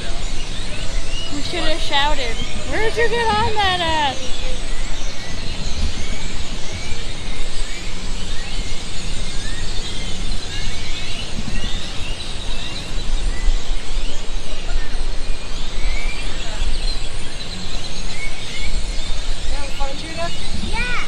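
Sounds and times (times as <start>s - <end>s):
flock of birds chirping: 0.0s - 21.0s
steady low rumble: 0.0s - 21.0s.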